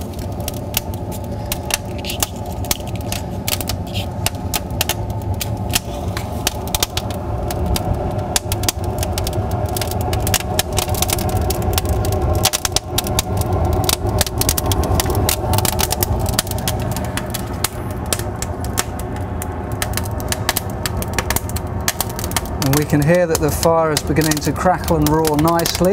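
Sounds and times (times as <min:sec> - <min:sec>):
fire crackling and popping: 0:00.0 - 0:25.9
low roar of fire: 0:00.0 - 0:25.9.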